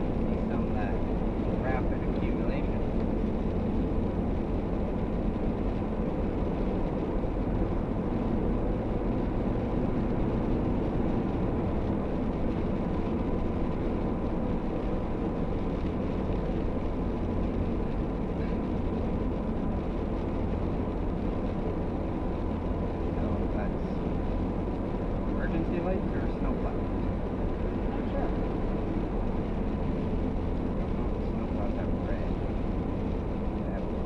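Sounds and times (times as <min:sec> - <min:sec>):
truck engine and tyre noise: 0:00.0 - 0:34.0.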